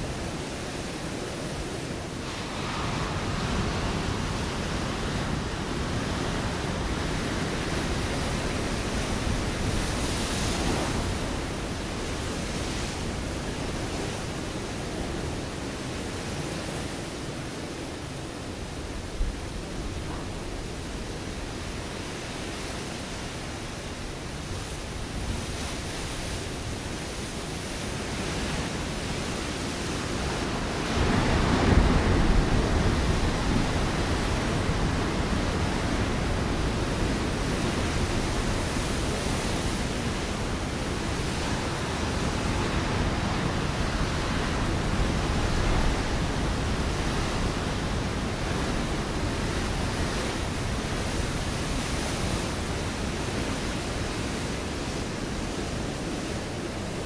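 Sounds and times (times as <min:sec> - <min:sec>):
ocean waves on rocky shore: 0:00.0 - 0:57.0.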